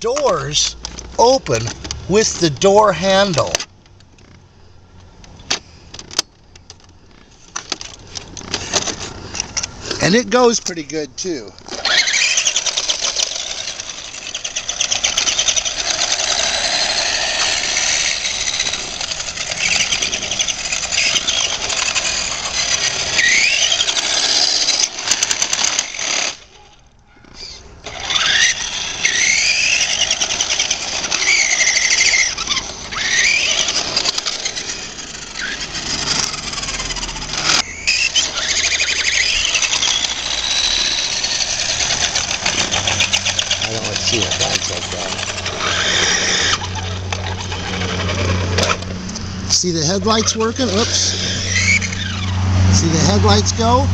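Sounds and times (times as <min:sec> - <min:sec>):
toy car motor whining: 0:07.5 - 0:53.8.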